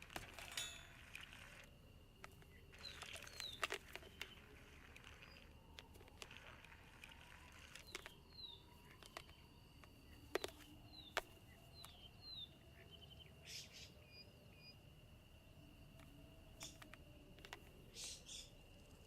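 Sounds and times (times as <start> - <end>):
faint steady high tone: 0.2 - 6.1, 6.7 - 19.0.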